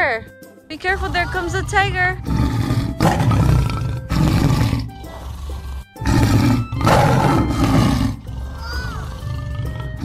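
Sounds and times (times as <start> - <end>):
background music: 0.0 - 10.0
tiger roaring: 0.8 - 10.0.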